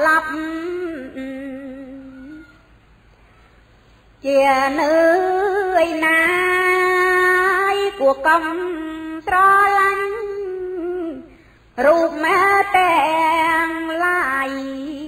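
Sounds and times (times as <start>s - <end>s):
woman chanting verse: 0.0s - 2.8s, 4.2s - 15.0s.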